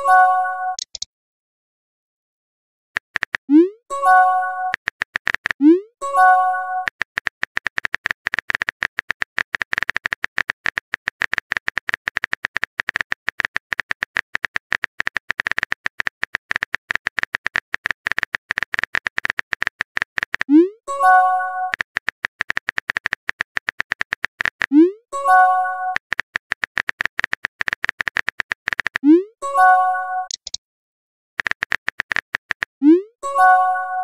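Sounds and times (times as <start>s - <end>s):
phone keyboard typing clicks: 0.7s - 1.1s, 3.0s - 29.2s, 30.2s - 30.6s, 31.4s - 32.8s.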